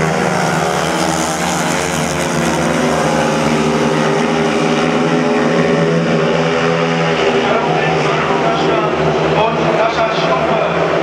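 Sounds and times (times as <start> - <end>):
motorcycle engines racing at high revs: 0.0 - 11.0.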